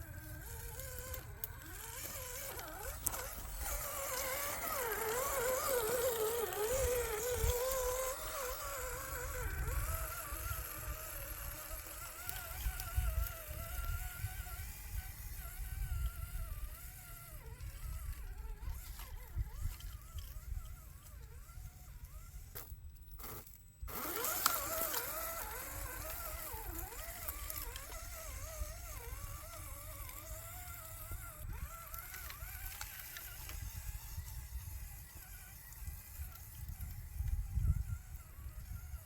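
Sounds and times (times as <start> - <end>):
electric motor whining: 0.0 - 39.0.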